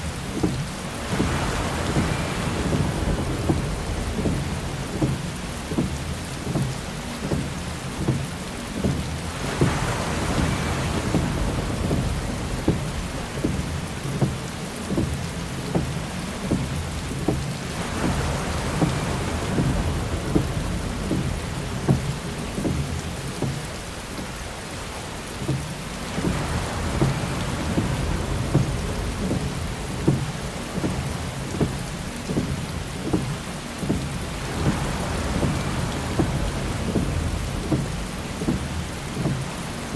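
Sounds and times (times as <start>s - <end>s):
heavy rain on a car: 0.0s - 39.9s
windshield wiper swish: 0.0s - 39.9s.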